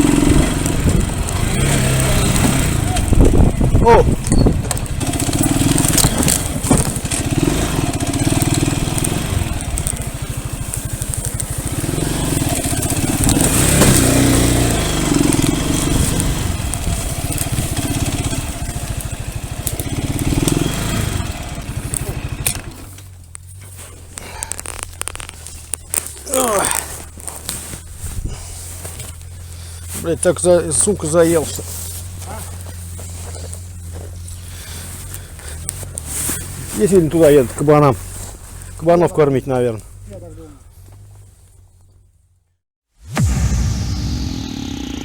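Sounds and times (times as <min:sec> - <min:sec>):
motorbike engine revving: 0:00.0 - 0:38.7, 0:43.0 - 0:45.0.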